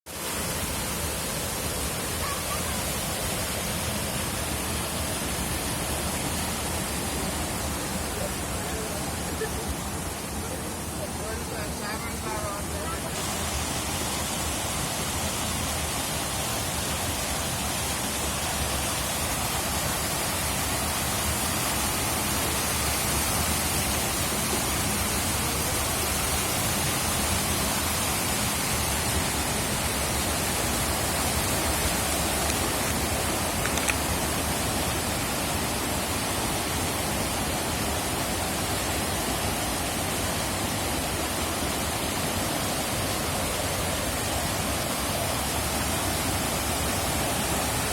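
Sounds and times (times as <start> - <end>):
rushing water: 0.1 - 47.9.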